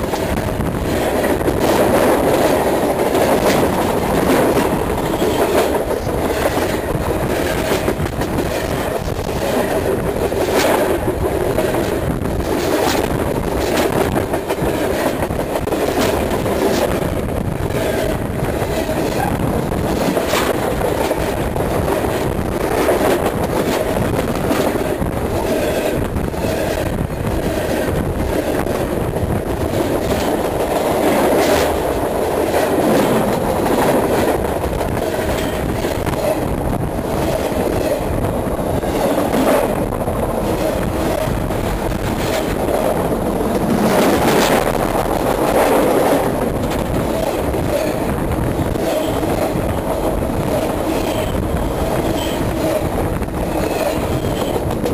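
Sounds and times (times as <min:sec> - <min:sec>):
train wheels rumbling on track: 0:00.0 - 0:54.9
wheels clicking over rail joints: 0:00.0 - 0:54.9.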